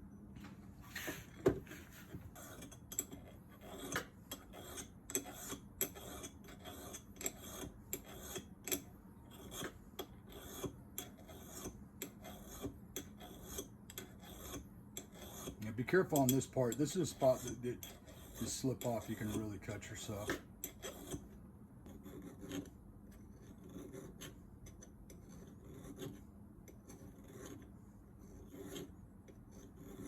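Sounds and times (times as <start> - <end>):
hand file scraping steel: 0.9 - 30.0.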